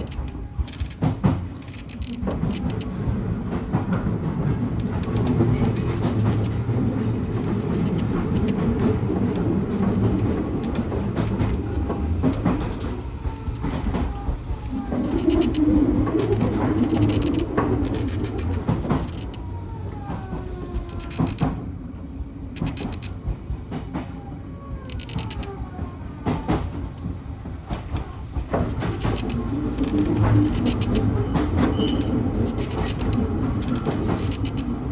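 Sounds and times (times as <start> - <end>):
wheels clicking over rail joints: 0.0 - 21.7, 22.5 - 24.2, 24.8 - 34.9
electric train rumbling: 0.0 - 34.9
falling whines of train slowing: 0.0 - 34.9.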